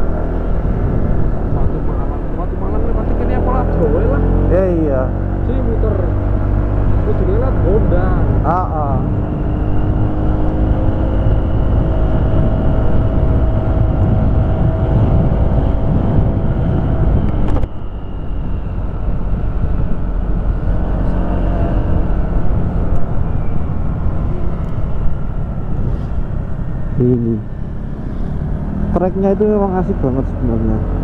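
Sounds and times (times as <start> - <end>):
wind rush on microphone: 0.0 - 5.4, 6.1 - 26.8
motorcycle engine cruising: 0.0 - 31.0.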